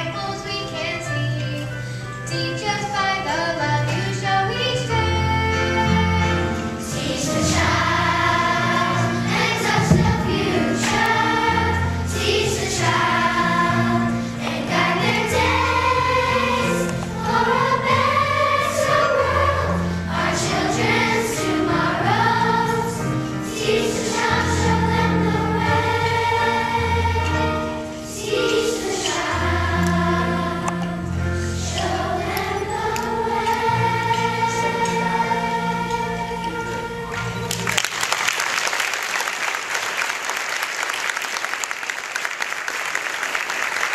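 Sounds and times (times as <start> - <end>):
children's choir singing: 2.3 - 38.0.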